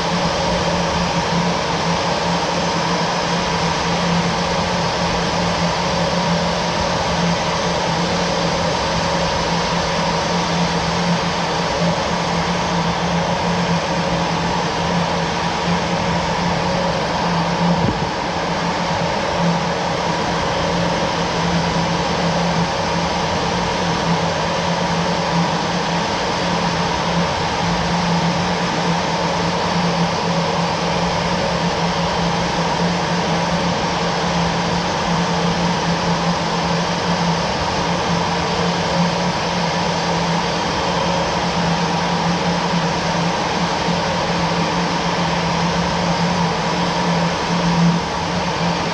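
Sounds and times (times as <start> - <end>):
jet engine drone: 0.0 - 48.9.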